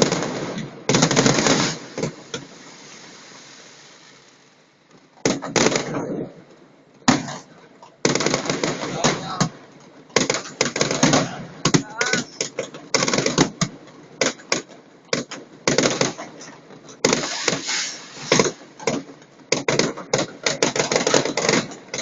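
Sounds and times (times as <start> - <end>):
fireworks and firecrackers bangs: 0.0 - 22.0.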